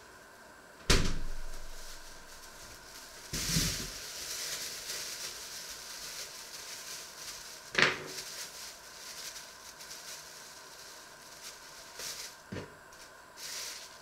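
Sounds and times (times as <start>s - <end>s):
plastic bag rustling: 1.1s - 14.0s.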